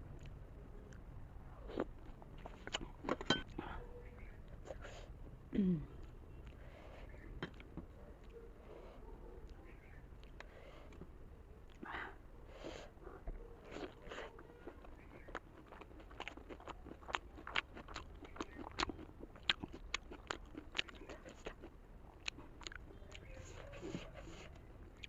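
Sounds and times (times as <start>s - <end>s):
chewing with wet mouth clicks: 0.1s - 5.0s, 6.0s - 8.6s, 9.3s - 11.9s, 13.2s - 25.0s.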